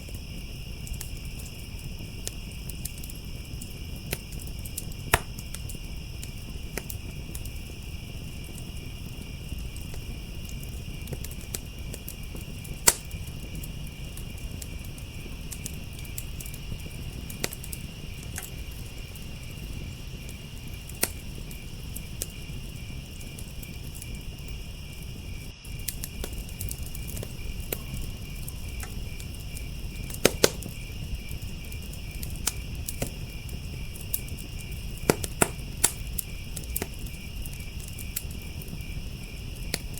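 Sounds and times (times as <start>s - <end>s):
crickets chirping: 0.0s - 39.9s
sharp pops from fire: 0.0s - 39.9s
wood fire crackling: 0.0s - 39.9s.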